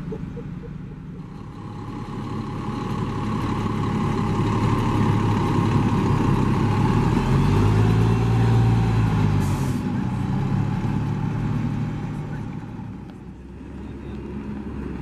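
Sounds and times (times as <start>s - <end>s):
bus diesel engine pulling away: 0.0s - 15.0s.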